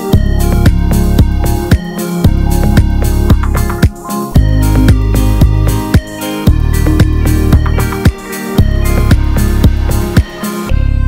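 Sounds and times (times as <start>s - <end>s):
background music with drum beat: 0.0s - 10.7s.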